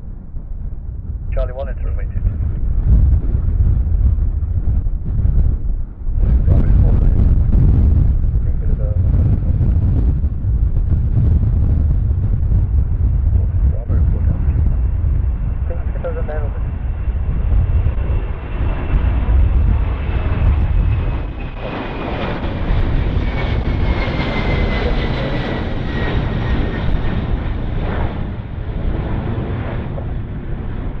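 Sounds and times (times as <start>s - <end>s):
jet engines roaring by: 0.0s - 31.0s.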